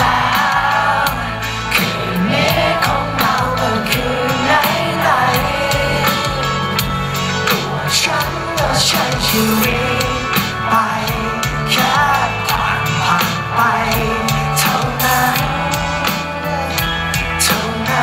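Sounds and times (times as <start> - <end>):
live band playing: 0.0 - 18.0
man singing: 0.0 - 18.0
steady drum beat: 0.0 - 18.0.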